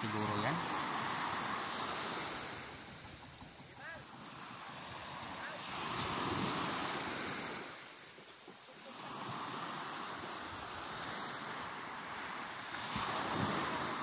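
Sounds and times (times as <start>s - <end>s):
wind on microphone: 0.0s - 8.2s, 9.0s - 14.0s
sea waves washing on shore: 0.0s - 14.0s.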